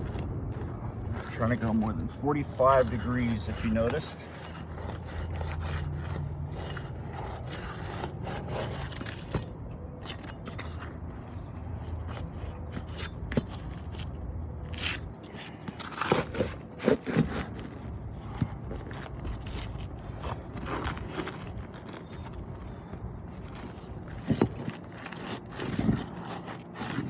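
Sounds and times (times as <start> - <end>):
roof shingles scraped: 0.0 - 27.0.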